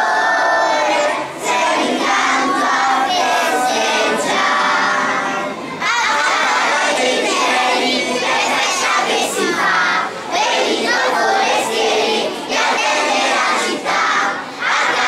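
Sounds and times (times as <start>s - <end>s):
children singing in unison: 0.0s - 15.0s.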